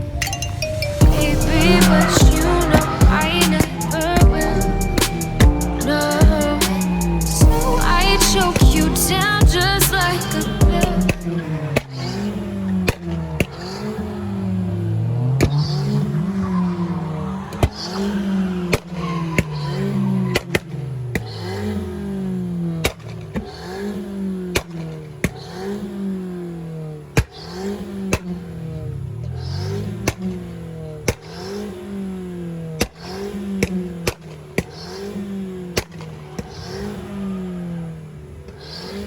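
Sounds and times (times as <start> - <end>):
car engine revving: 0.8 - 39.0
exhaust cracks: 1.0 - 39.0.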